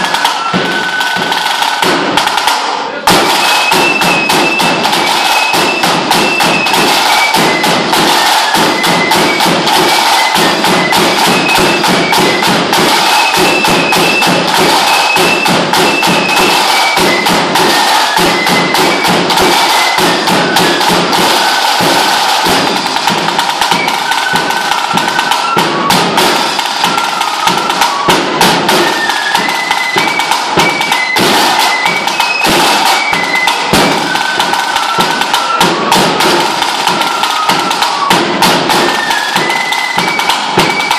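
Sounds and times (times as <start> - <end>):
fife playing a tune: 0.0 - 40.9
large drum beaten with canes: 0.0 - 40.9.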